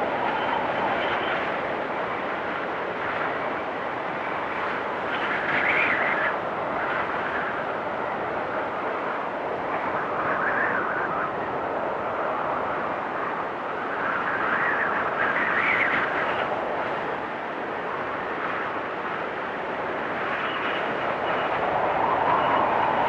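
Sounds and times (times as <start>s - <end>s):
wind storm whistling: 0.0s - 23.0s.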